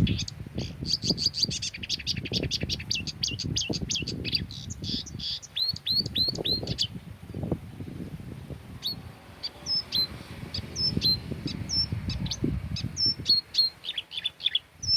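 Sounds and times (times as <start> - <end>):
songbirds chirping: 0.0 - 14.9.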